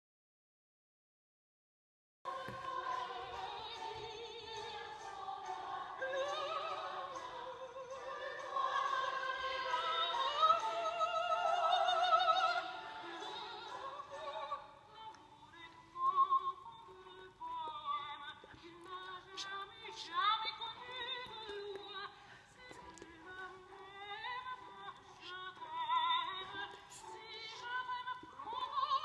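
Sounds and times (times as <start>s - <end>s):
woman singing operatically: 2.3s - 29.0s.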